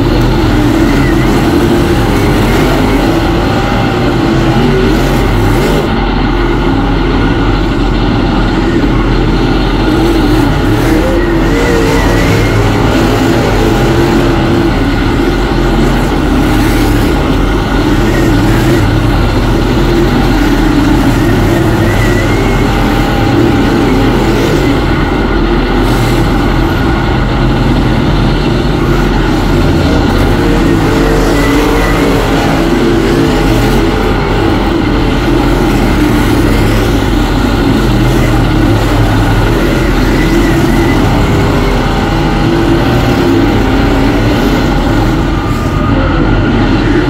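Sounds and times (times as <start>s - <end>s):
race car engines running hard: 0.0s - 47.0s.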